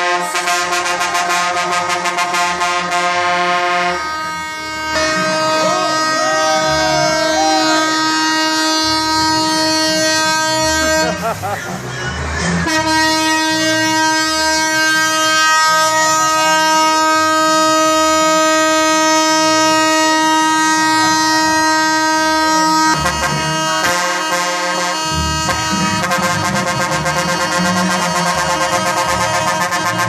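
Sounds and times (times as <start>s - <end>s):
truck horn: 0.0s - 30.0s.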